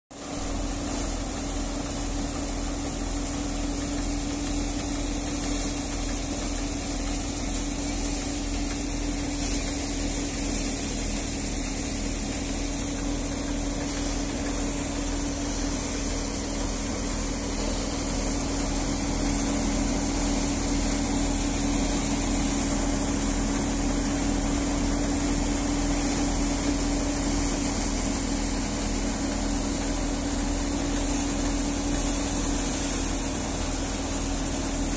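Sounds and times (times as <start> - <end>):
hiss of grain and air: 0.2 - 34.9
thresher machine drone: 0.2 - 34.9.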